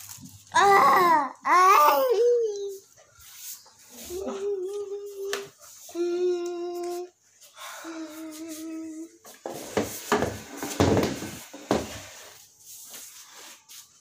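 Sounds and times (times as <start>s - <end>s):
rustling and clattering of household things: 0.0s - 14.0s.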